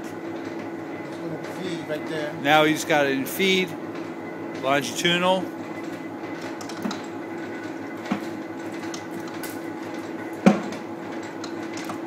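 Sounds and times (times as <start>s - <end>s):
lathe running with mechanical hum: 0.0s - 12.0s.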